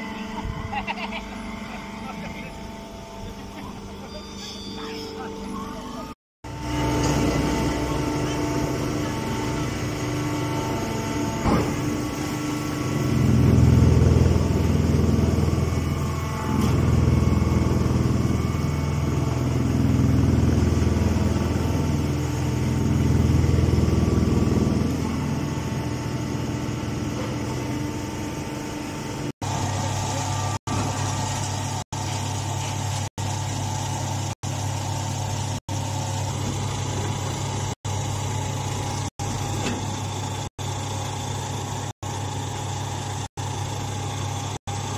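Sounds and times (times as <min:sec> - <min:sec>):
baler machine hum: 0:00.0 - 0:44.9.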